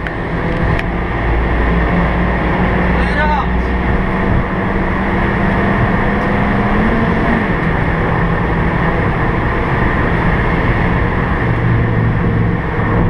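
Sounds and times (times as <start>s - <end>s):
car engine running hard: 0.0s - 13.0s
road and wind noise: 0.0s - 13.0s.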